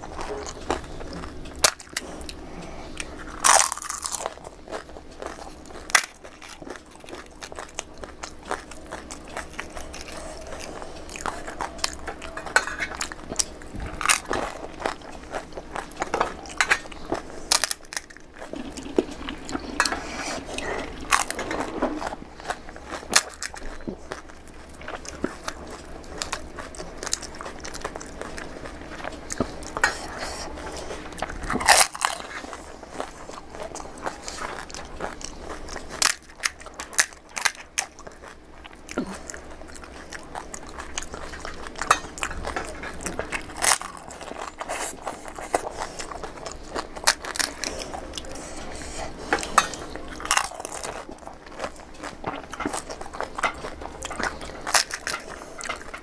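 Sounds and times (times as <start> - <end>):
chewing: 0.0 - 56.0
crisp shells crunching: 3.0 - 19.9, 20.9 - 29.8, 30.6 - 48.4, 49.1 - 56.0.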